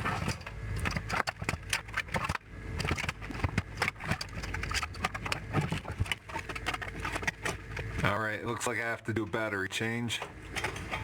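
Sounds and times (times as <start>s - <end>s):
clicks knocks and scrapes of parts: 0.0s - 8.1s, 10.2s - 11.0s
low steady hum: 0.0s - 11.0s.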